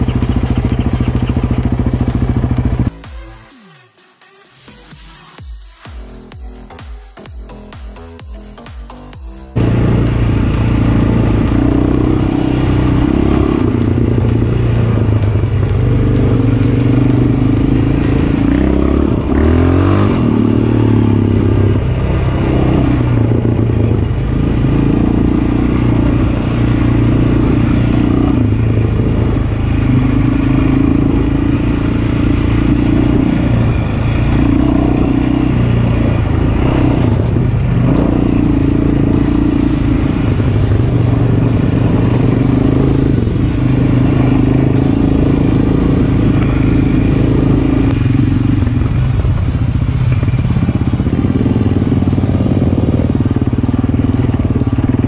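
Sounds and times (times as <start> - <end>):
quad bike engine revving: 0.0 - 3.0, 9.5 - 55.0.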